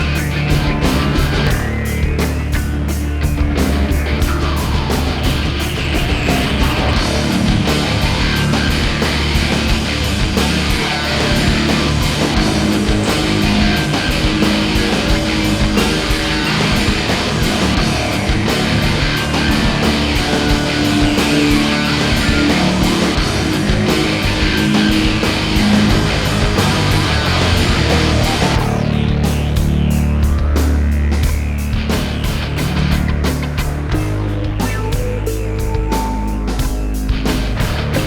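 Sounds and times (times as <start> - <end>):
distorted electric guitar: 0.0 - 38.0
steady drum beat: 0.0 - 38.0.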